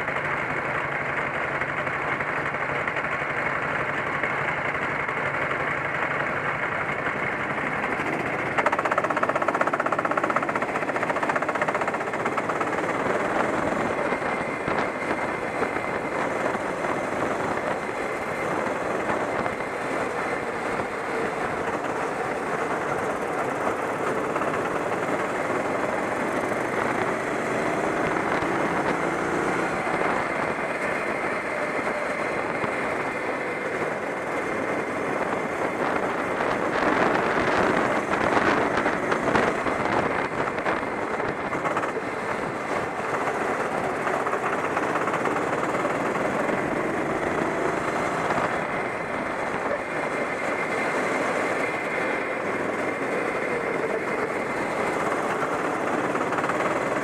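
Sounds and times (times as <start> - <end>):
go-kart engine racing: 0.0 - 57.0
other kart engines: 0.0 - 57.0
rushing wind: 0.0 - 57.0.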